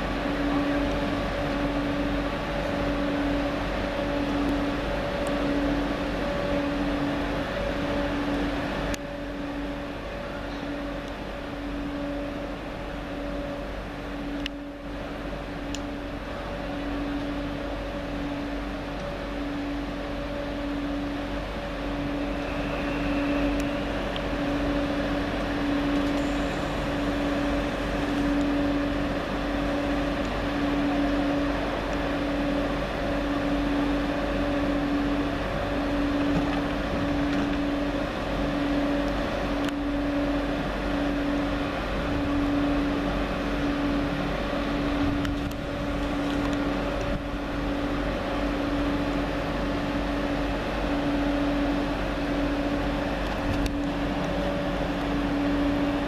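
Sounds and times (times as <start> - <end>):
pulsing train electrical hum: 0.0 - 56.0.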